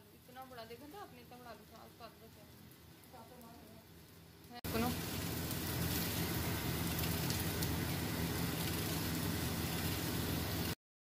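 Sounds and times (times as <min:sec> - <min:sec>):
low steady hum: 0:00.0 - 0:10.8
potatoes and onion frying in oil: 0:00.0 - 0:10.8.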